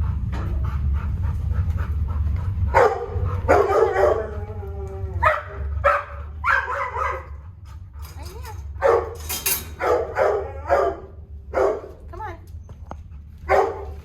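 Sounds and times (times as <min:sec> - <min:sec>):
dogs barking: 0:00.4 - 0:12.4, 0:13.1 - 0:14.0.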